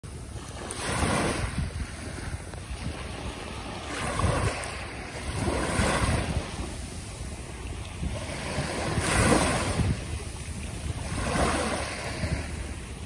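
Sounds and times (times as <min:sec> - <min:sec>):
small waves washing on sand: 0:00.1 - 0:13.0.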